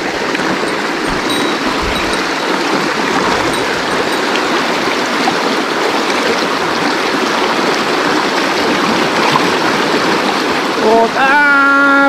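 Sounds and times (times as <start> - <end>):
stream rushing over rocks: 0.0 - 11.2.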